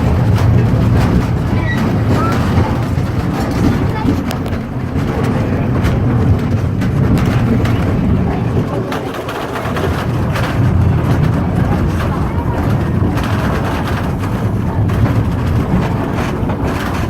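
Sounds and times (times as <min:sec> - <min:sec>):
moving train rumble: 0:00.0 - 0:17.0
sharp clicks and knocks: 0:00.0 - 0:17.0.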